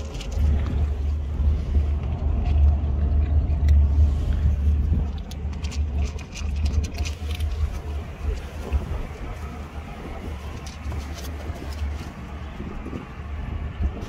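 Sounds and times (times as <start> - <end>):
cats crunching dry kibble: 0.0 - 14.0
steady low rumble: 0.0 - 14.0.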